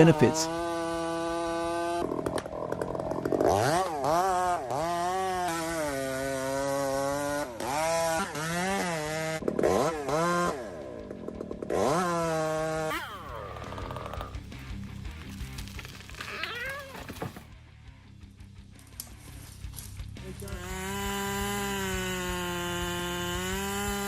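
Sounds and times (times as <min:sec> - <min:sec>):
chainsaw engine revving: 0:00.0 - 0:17.4, 0:20.1 - 0:24.0.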